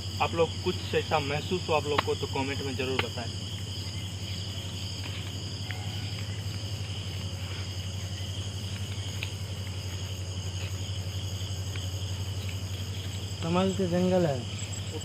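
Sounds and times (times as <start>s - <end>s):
crickets and insects trilling: 0.0s - 15.0s.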